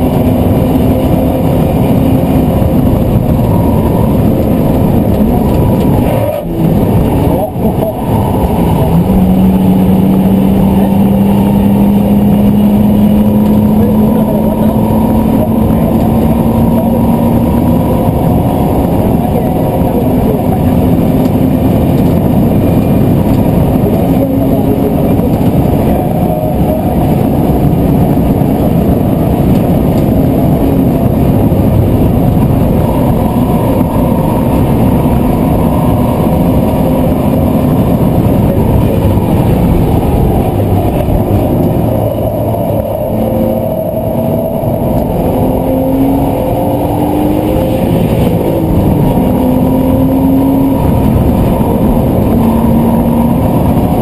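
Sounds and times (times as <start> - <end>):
car engine running hard: 0.0 - 54.0
road and wind noise: 0.0 - 54.0.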